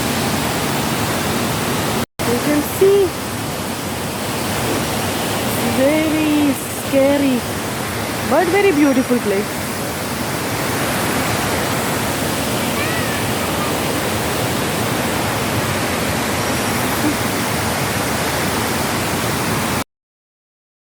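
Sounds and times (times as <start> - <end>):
waterfall roaring: 0.0 - 19.8.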